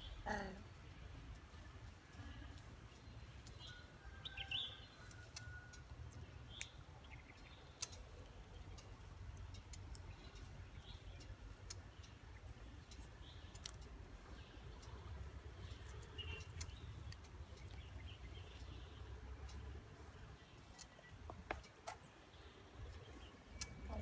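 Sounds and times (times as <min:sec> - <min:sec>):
faint clicks: 0:00.8 - 0:24.0
high bird chirps: 0:03.0 - 0:24.0.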